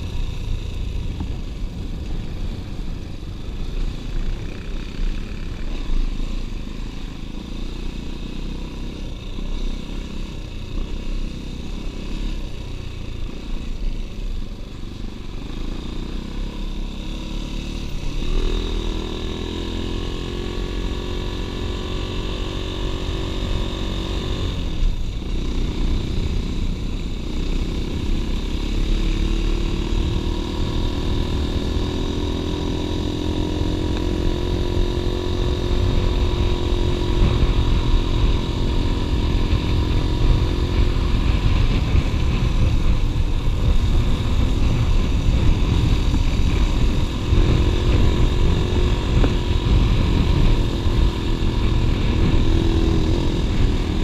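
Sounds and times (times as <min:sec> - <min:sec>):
wind rumbling on microphone: 0:00.0 - 0:07.3, 0:08.8 - 0:54.0
dirt bike engine running: 0:00.0 - 0:54.0.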